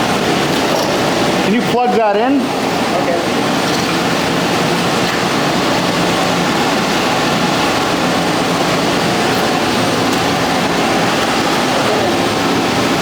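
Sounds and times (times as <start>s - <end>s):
boiler-room machinery running: 0.0s - 13.0s.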